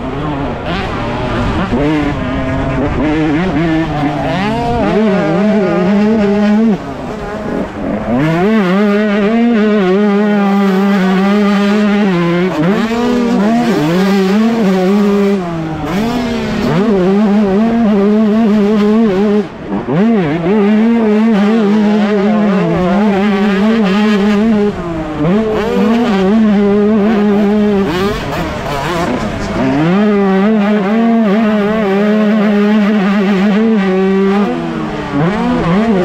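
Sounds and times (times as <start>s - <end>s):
motocross engine racing: 0.0s - 36.0s.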